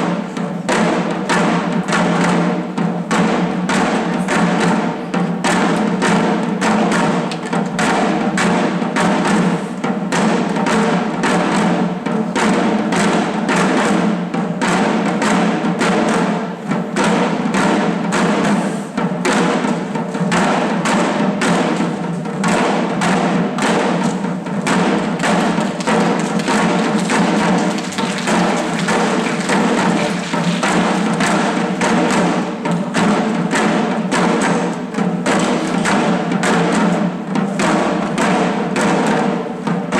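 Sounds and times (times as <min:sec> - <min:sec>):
drums beating steady rhythm: 0:00.0 - 0:39.9.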